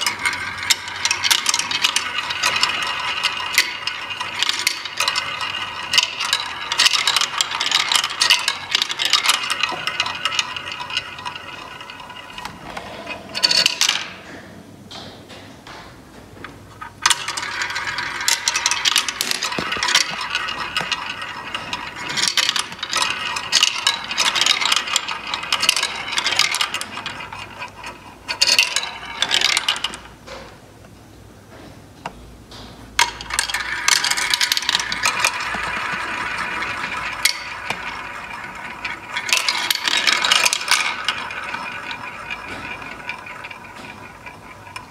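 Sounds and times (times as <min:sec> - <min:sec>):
small balls clattering through toy tracks: 0:00.0 - 0:14.1, 0:17.0 - 0:30.0, 0:33.0 - 0:44.9.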